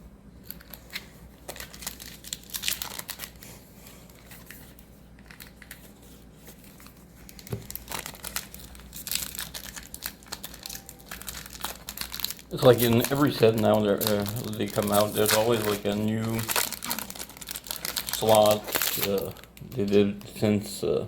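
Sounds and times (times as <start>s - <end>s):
foil wrapper crinkling and tearing: 0.4s - 20.5s.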